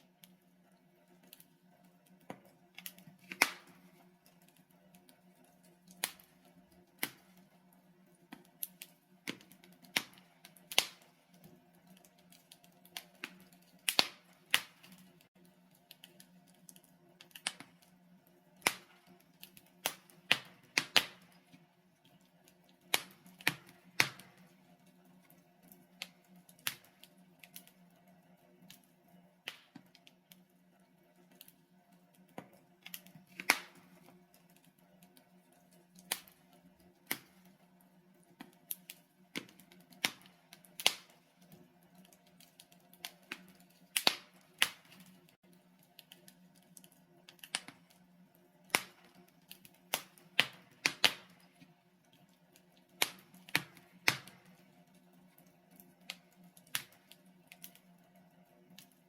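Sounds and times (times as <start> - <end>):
logs crackling and popping: 0.0 - 59.0.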